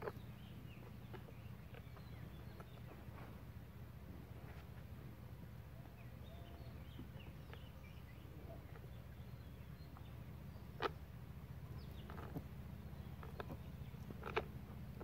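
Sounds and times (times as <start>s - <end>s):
faint bird chirps: 0.0s - 3.5s, 5.6s - 15.0s
steady low rumble: 0.0s - 15.0s.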